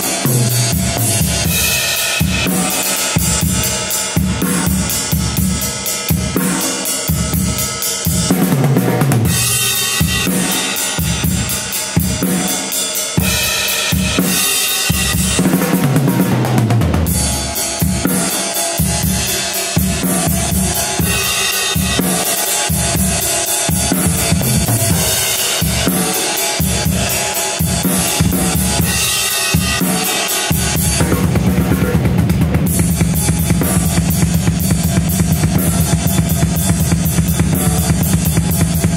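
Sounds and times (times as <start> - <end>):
ride cymbals: 0.0 - 8.5, 9.3 - 16.2, 17.1 - 38.9
drum kit rock groove: 0.0 - 38.9.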